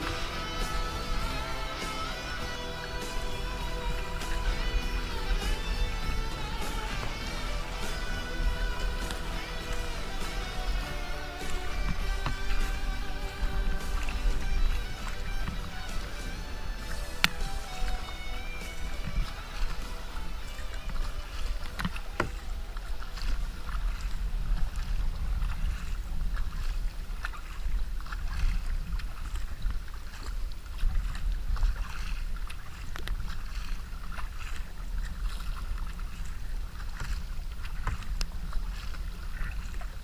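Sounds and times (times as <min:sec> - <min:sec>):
paddle splashes and drips: 0:00.0 - 0:40.0
wind rumbling on microphone: 0:00.0 - 0:40.0.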